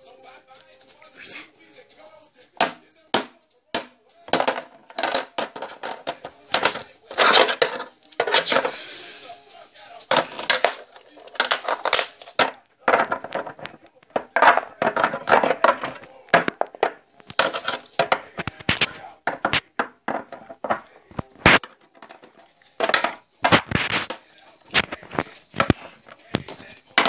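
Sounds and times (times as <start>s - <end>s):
rustling and crinkling handling noise: 4.2s - 8.8s, 9.5s - 27.0s.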